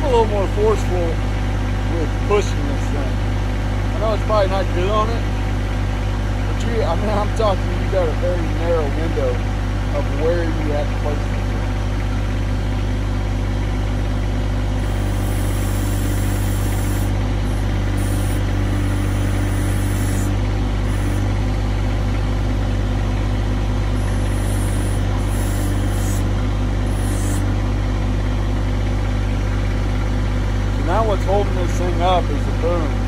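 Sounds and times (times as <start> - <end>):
tractor diesel engine idling: 0.0 - 33.0.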